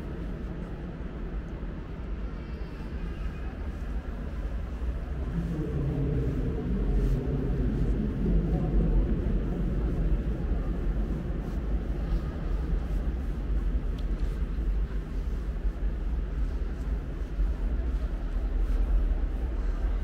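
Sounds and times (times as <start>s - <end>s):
low rumble and hiss of air: 0.0s - 20.0s.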